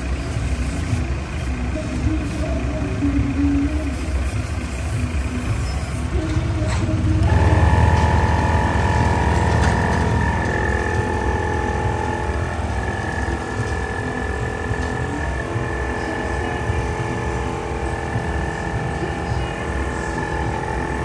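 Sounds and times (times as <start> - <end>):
tyre compressor buzzing and whining: 0.0 - 21.0.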